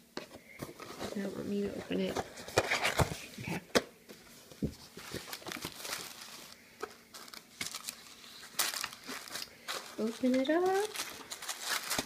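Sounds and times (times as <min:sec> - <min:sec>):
cardboard and tissue paper rustling: 0:00.6 - 0:03.6, 0:04.2 - 0:12.0.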